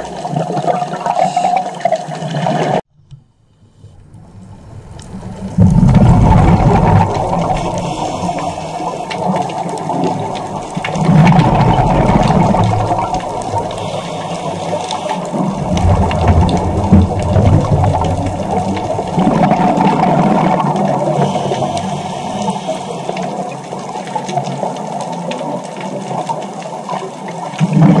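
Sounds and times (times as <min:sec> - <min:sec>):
muffled water hiss: 0:00.0 - 0:28.0
regulator bubbles rumbling: 0:04.0 - 0:28.0.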